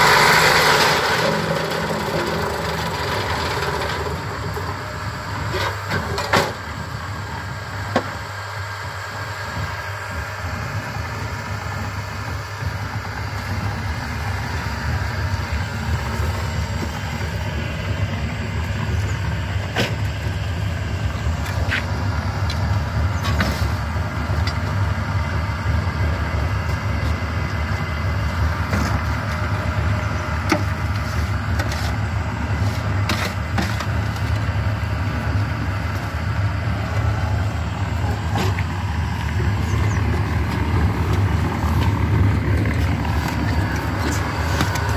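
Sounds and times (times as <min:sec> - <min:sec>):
machinery humming: 0:00.0 - 0:44.9.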